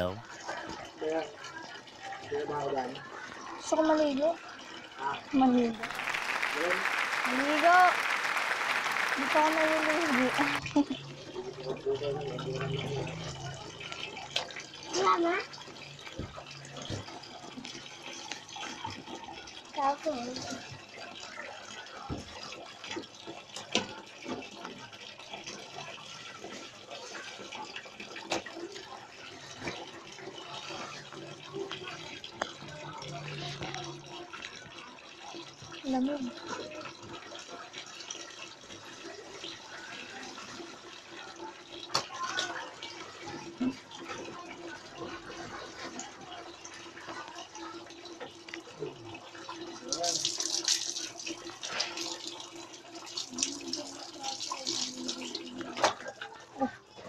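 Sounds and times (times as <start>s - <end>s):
water splashing in washing machine: 0.0s - 57.0s.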